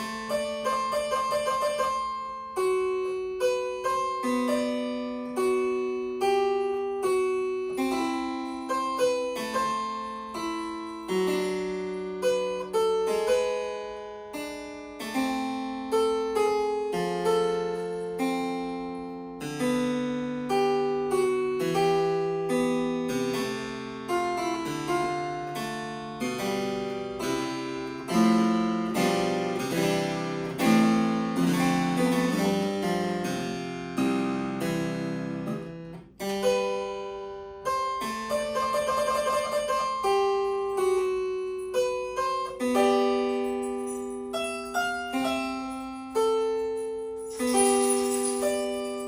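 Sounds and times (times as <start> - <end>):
harpsichord music: 0.0 - 49.0.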